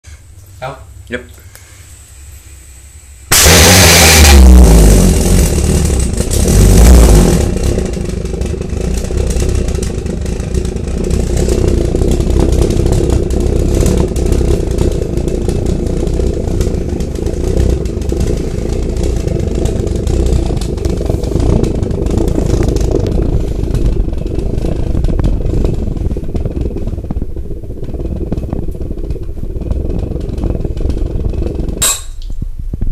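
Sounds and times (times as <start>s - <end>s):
burning jar jet droning rumble: 0.1s - 32.9s
fuel igniting whoosh: 1.6s - 32.9s.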